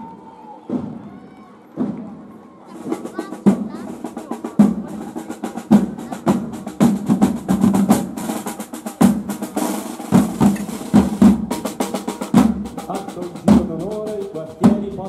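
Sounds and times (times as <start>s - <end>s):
marching drums beating: 0.6s - 15.0s.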